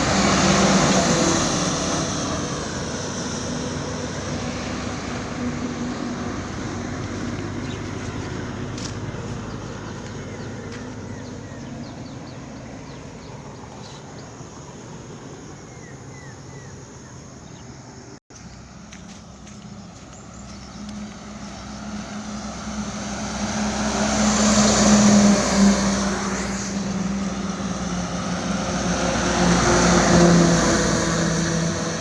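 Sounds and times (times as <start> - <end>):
road vehicle moving away: 0.0 - 32.0.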